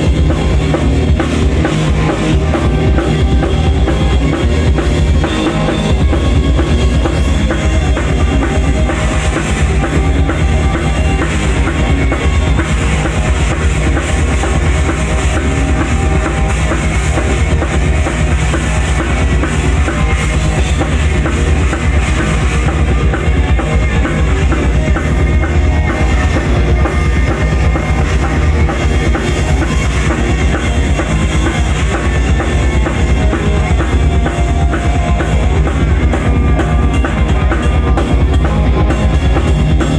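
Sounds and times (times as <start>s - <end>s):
busy bass drum: 0.0s - 39.9s
live rock band playing: 0.0s - 39.9s.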